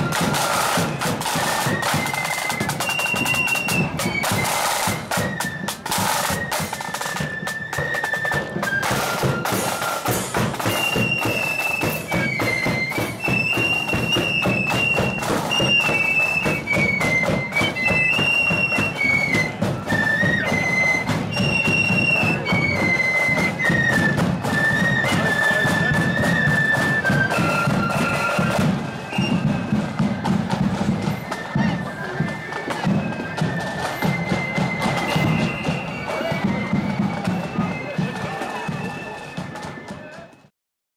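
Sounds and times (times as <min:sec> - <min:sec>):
flutes playing melody: 0:00.0 - 0:40.5
snare drums: 0:00.0 - 0:40.5.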